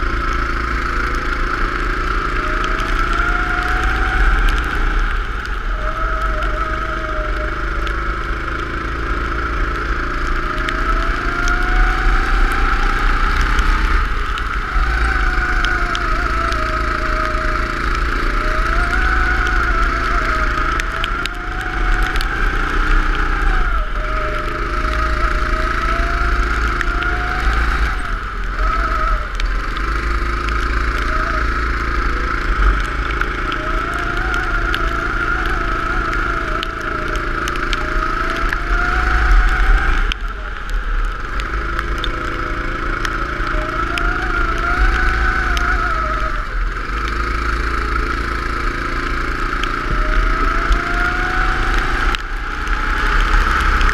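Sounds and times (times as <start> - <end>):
go-kart engine running: 0.0 - 53.9.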